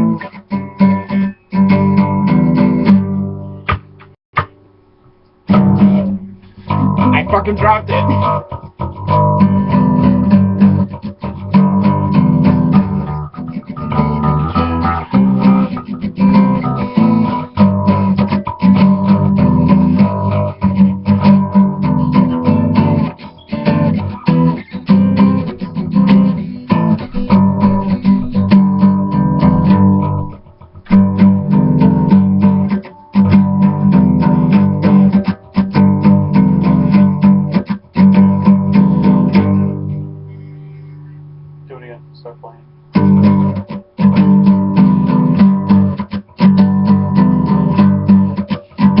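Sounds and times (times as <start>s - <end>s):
guitar plucked and strummed: 0.0s - 49.0s.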